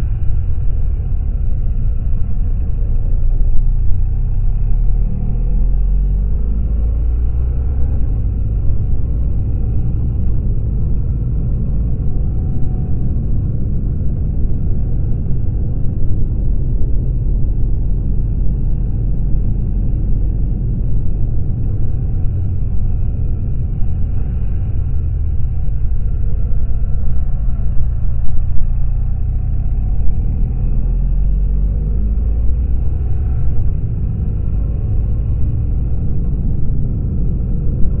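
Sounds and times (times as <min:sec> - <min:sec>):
wind and road noise rumble: 0:00.0 - 0:38.0.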